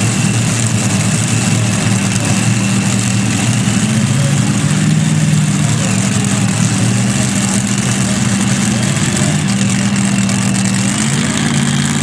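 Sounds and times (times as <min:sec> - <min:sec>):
tractor engines idling: 0:00.0 - 0:12.0.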